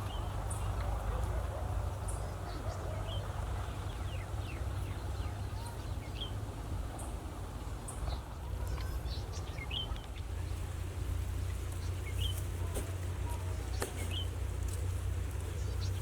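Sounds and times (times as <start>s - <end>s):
low rumble and hiss: 0.0s - 16.0s
small birds chirping: 0.0s - 16.0s.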